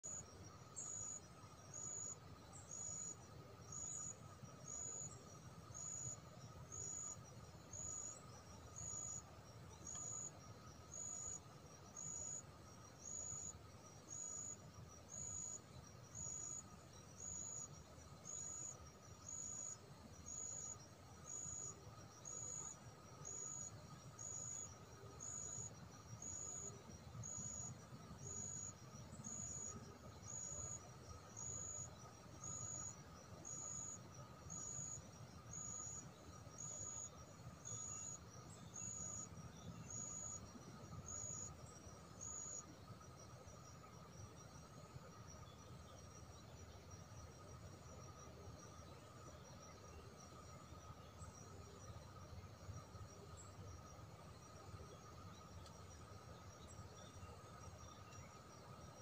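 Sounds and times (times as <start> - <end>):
faint steady drone: 0.0 - 59.0
insect chirping: 0.0 - 59.0.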